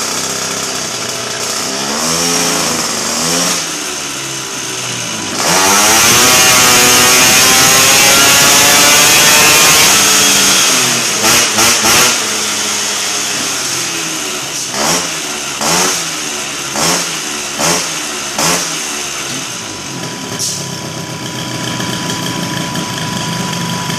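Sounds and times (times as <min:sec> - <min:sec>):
engine throttle blips: 0:00.0 - 0:23.9
scooter engine revving: 0:00.0 - 0:23.9.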